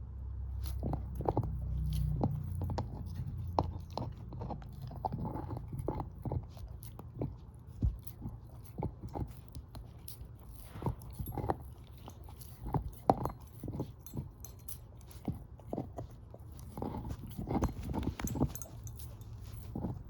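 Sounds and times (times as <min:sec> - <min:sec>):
dog crunching on a bone: 0:00.4 - 0:20.0.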